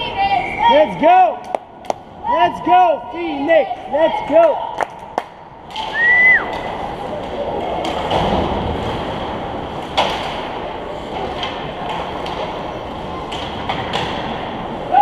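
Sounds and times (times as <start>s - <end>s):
arena crowd din: 0.0s - 15.0s.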